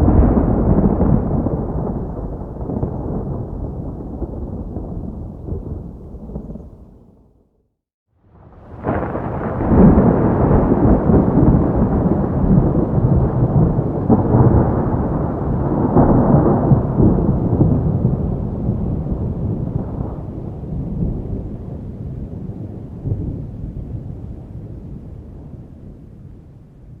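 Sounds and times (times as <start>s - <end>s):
thunder rumbling: 0.0s - 7.4s, 8.3s - 26.0s.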